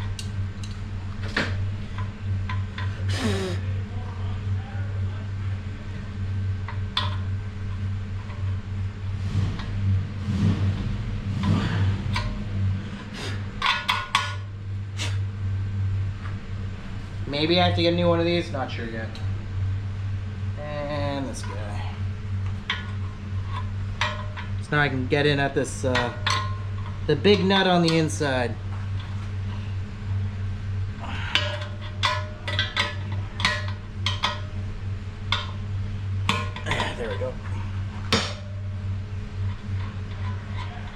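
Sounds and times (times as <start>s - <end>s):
low hum: 0.0s - 40.9s.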